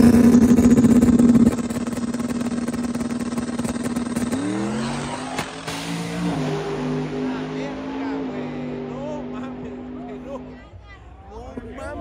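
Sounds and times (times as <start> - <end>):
engine revving: 0.0 - 10.7
drag racing engine stuttering: 0.0 - 10.8.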